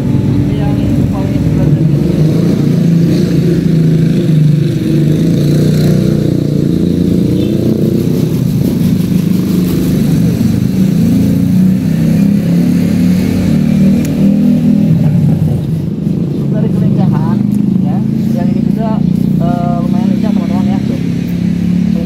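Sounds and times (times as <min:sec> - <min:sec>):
loud engine drone: 0:00.0 - 0:22.0.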